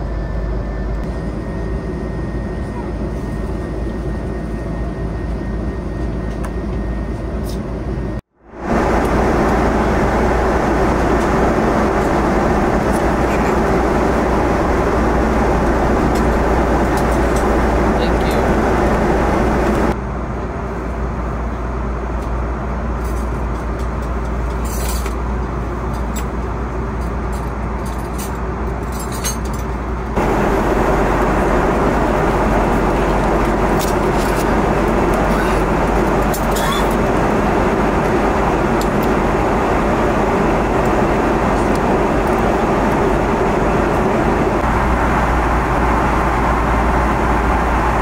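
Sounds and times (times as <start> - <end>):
airliner cabin noise: 0.0 - 48.0.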